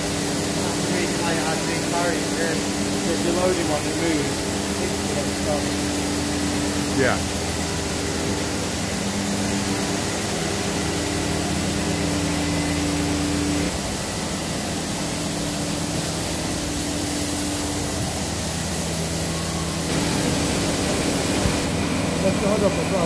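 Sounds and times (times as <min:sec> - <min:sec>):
steady machine tones: 0:00.0 - 0:23.0
workshop machinery humming: 0:00.0 - 0:23.0.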